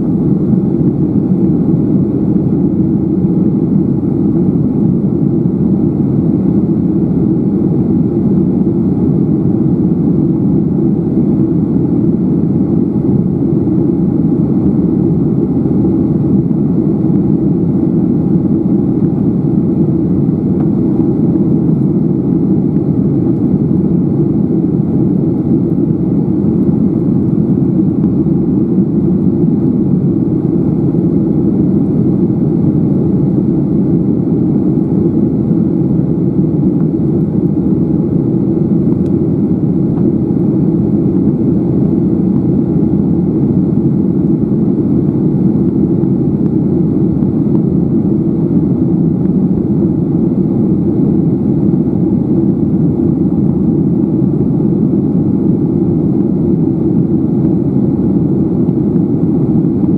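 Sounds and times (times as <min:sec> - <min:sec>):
airplane engines rumbling: 0:00.0 - 0:59.9.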